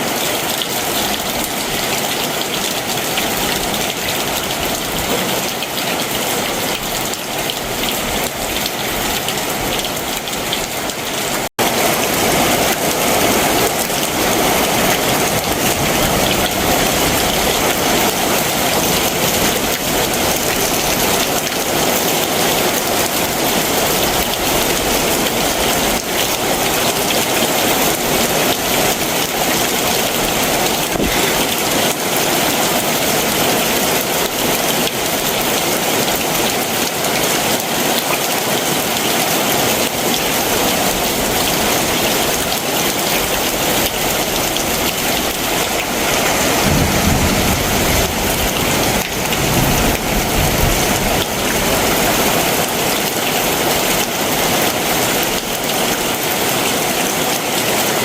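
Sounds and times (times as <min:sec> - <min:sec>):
heavy rain downpour: 0:00.0 - 0:58.0.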